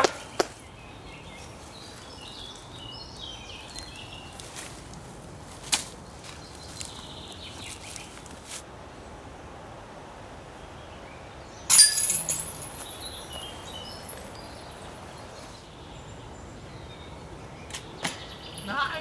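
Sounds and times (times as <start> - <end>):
birds chirping: 0.0 - 9.2, 10.5 - 19.0
steady outdoor background: 0.0 - 19.0.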